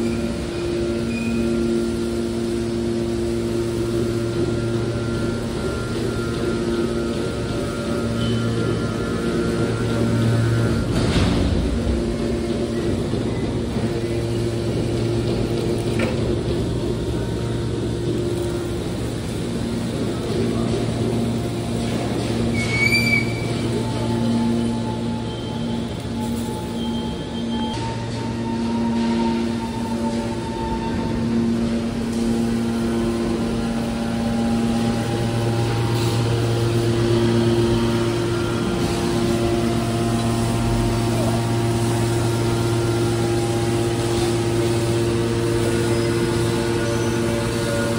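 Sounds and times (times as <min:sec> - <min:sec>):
hydraulic power unit humming: 0:00.0 - 0:47.9.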